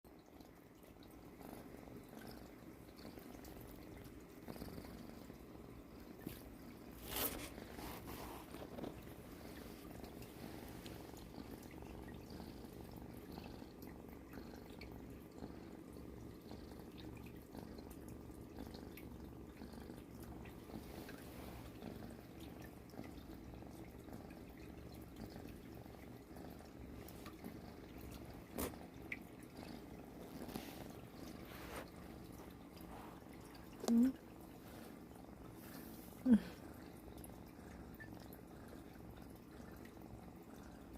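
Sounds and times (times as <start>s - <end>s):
cat purring: 0.1s - 40.9s.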